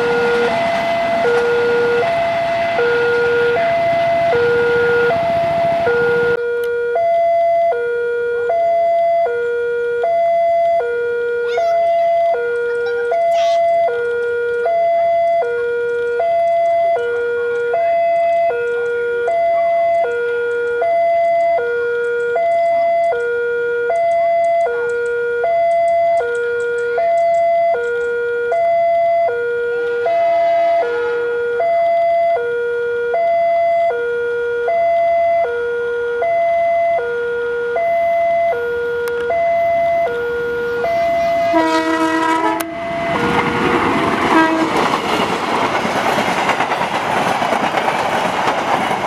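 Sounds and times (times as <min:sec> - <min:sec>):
two-tone electronic crossing alarm: 0:00.0 - 0:48.6.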